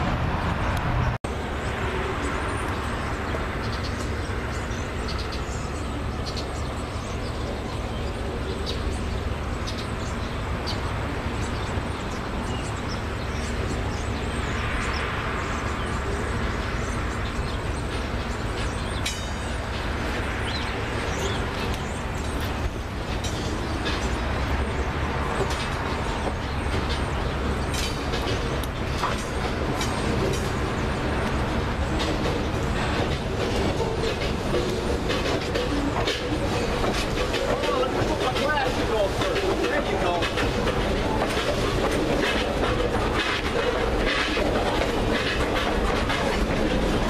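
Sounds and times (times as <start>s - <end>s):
train rumbling: 0.0s - 47.0s
wheels ticking and squeaking: 1.6s - 47.0s.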